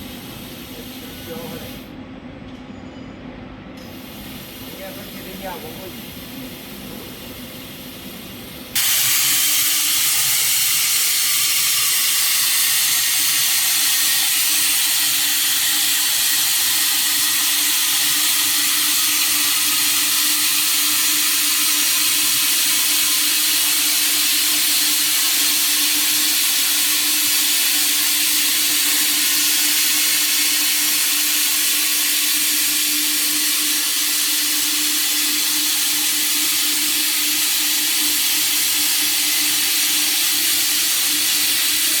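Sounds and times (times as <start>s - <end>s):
plasma torch hissing: 0.0s - 1.9s, 3.8s - 42.0s
steady machine hum: 0.0s - 42.0s.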